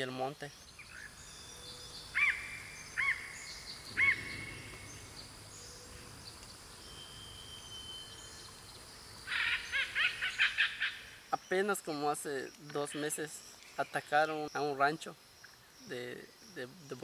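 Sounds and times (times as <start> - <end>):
birds calling: 0.0 - 17.0
outdoor hiss: 0.0 - 17.0.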